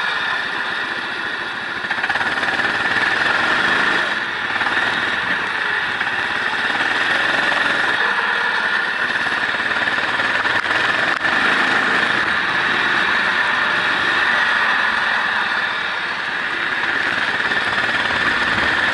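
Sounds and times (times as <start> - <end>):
race car engine at speed: 0.0 - 18.9.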